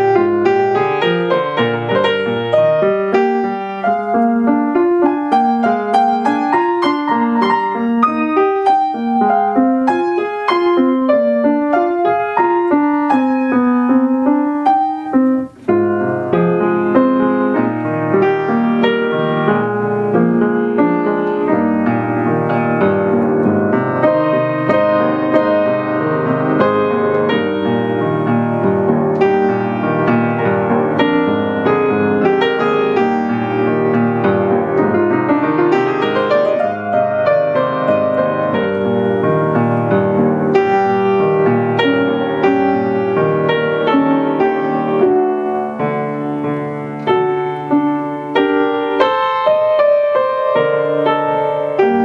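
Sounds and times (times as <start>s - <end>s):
grand piano playing: 0.0s - 52.0s.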